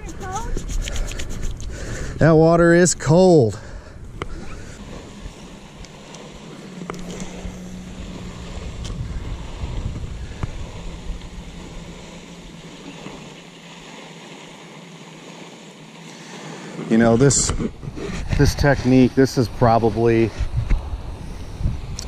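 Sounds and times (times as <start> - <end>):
wind on microphone: 0.0 - 13.8, 16.8 - 22.0
low steady hum: 0.0 - 22.0.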